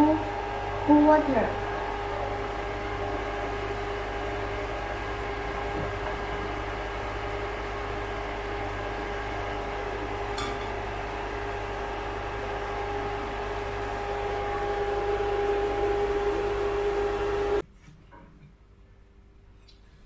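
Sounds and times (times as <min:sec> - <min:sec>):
range hood fan humming: 0:00.0 - 0:20.0.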